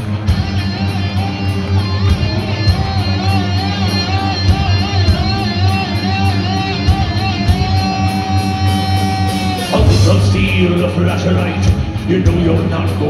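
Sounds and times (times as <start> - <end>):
heavy metal band playing live: 0.0 - 13.0
lead guitar bending notes: 0.0 - 13.0.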